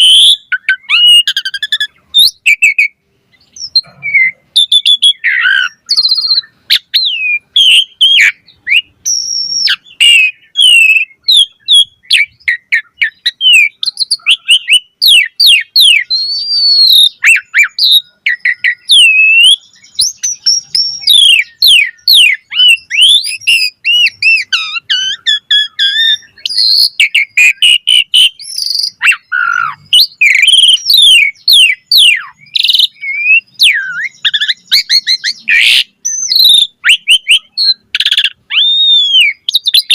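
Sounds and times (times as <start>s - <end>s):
starling singing whistles and trills: 0.0s - 39.9s.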